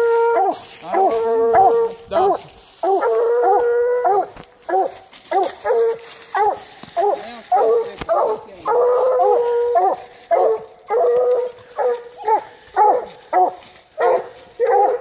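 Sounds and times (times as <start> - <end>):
dog howling: 0.0 - 15.0
dogs barking: 0.0 - 15.0.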